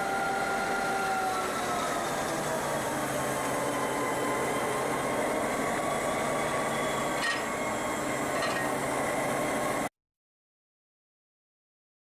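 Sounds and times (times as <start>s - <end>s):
fan whine: 0.0s - 9.9s.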